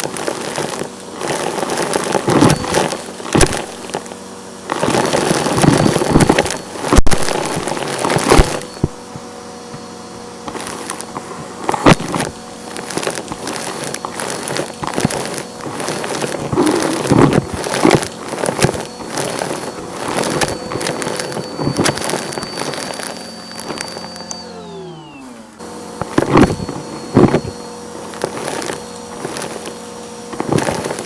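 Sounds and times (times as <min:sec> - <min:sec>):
debris crackling and rattling: 0:00.0 - 0:25.2, 0:25.9 - 0:31.0
vacuum cleaner hum: 0:00.0 - 0:31.0.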